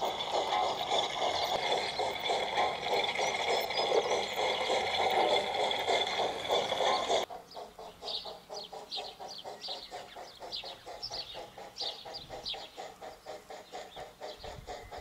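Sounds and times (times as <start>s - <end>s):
rhythmic pulsing: 0.0s - 15.0s
small birds chirping: 0.0s - 15.0s.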